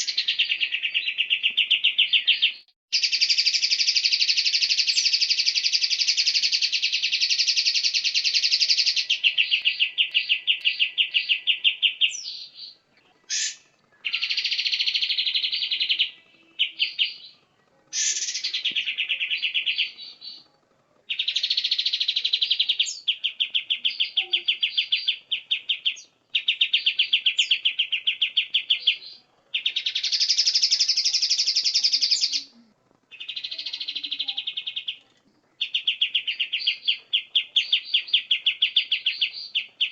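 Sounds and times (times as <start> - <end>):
songbird trilling: 0.0 - 20.5, 21.1 - 35.0, 35.6 - 39.9.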